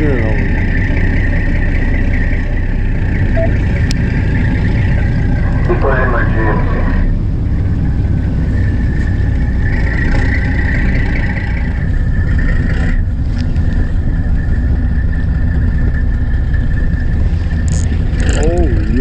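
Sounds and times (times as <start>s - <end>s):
boat engine rumbling: 0.0s - 19.0s
high steady whine: 0.0s - 19.0s.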